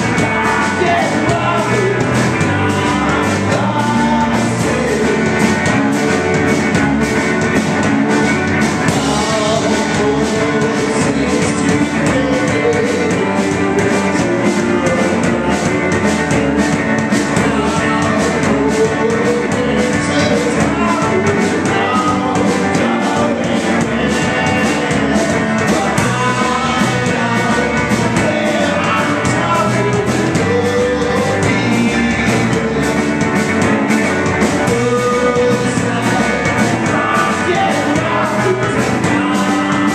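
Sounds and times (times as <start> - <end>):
drum kit with cymbals: 0.0 - 39.9
electric bass: 0.0 - 39.9
electric guitar: 0.0 - 39.9.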